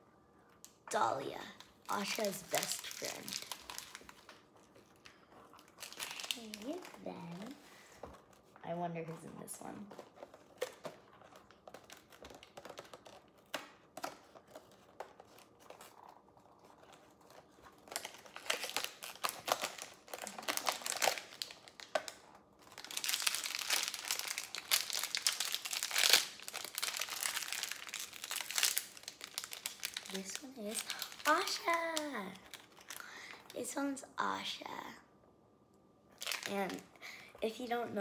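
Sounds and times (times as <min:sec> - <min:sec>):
wrapper crinkling and tearing: 0:00.6 - 0:08.6, 0:09.6 - 0:33.6, 0:36.1 - 0:37.1.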